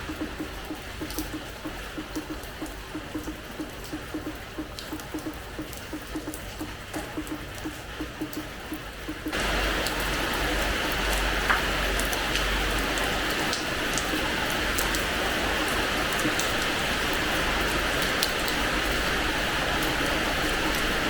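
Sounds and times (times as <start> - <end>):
rain hissing on a terrace: 0.0 - 21.0
sharp raindrop ticks: 0.0 - 21.0.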